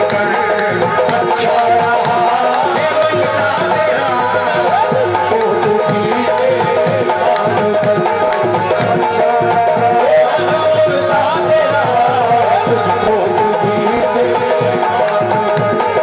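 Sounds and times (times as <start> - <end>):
harmonium melody: 0.0 - 16.0
tabla fast rhythm: 0.0 - 16.0.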